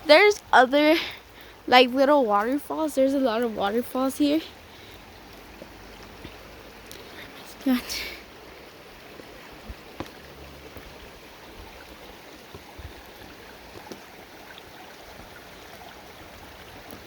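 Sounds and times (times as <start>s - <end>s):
waterfalls running over rocks: 0.0s - 17.0s.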